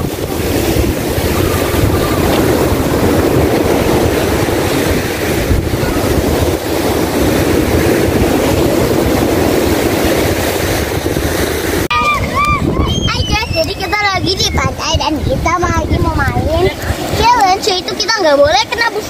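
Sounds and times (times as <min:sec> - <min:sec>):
rough sea surf breaking: 0:00.0 - 0:19.0
wind buffeting microphone: 0:00.0 - 0:19.0.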